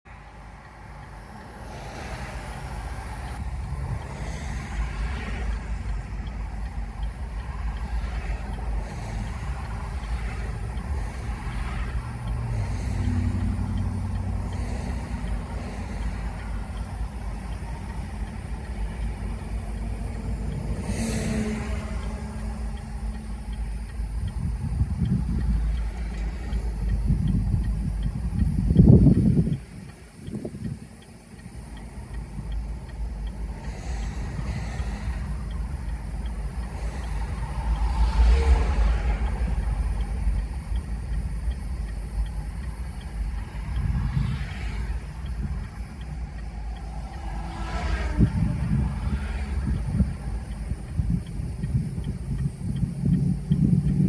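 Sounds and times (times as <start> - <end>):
cars and trucks passing: 0.0 - 54.0
low engine rumble: 0.0 - 54.0
low steady engine hum: 0.0 - 54.0.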